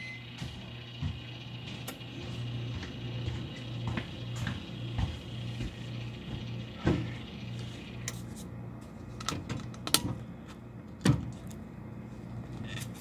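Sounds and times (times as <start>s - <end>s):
refrigerator hum: 0.0s - 13.0s.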